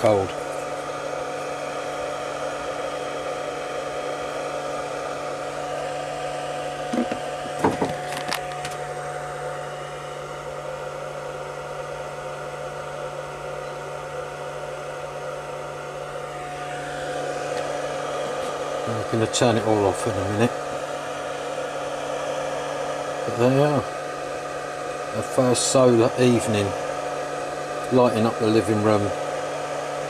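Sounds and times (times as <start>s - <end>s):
inverter electrical hum: 0.0s - 30.0s.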